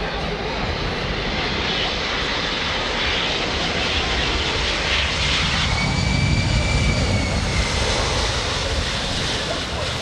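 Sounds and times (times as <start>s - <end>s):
jet engine rumble: 0.0s - 10.0s.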